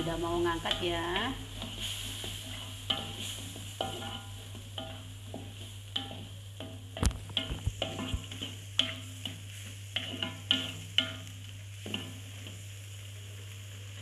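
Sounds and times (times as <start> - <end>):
spatula scraping a metal wok: 0.0 - 12.8
food sizzling: 0.0 - 14.0.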